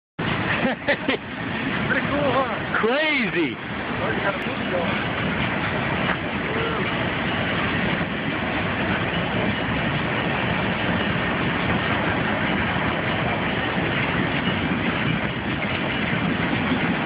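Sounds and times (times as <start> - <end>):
train wagons rolling on track: 0.2 - 17.0.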